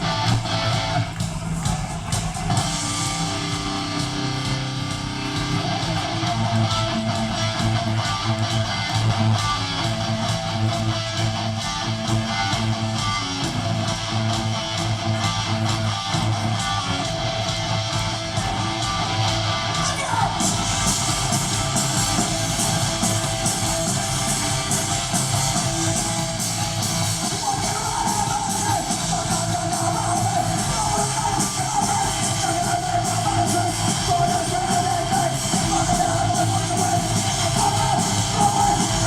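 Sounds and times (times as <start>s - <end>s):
punk band playing: 0.0s - 39.0s.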